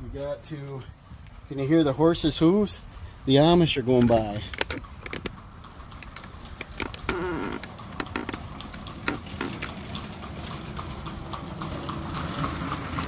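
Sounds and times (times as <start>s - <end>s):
horse hooves clopping on pavement: 0.0s - 13.0s.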